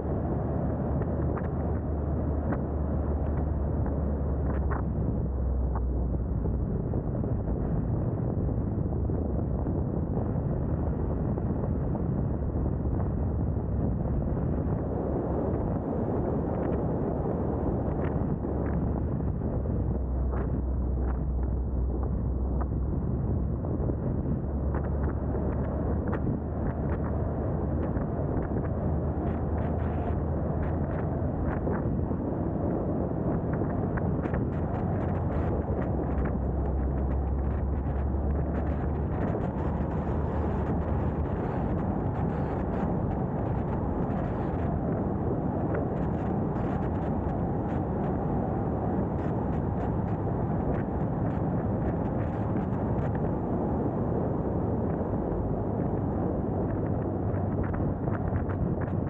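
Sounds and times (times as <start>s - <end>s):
road noise: 0.0s - 6.6s, 12.2s - 59.0s
wind rushing over microphone: 0.0s - 59.0s.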